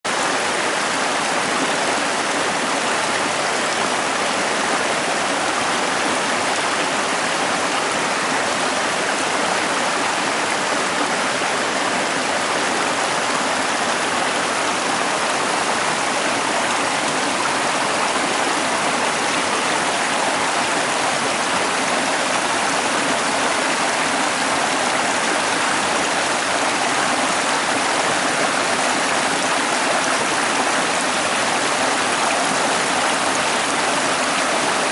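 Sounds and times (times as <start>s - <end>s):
mountain stream rushing: 0.1s - 34.9s.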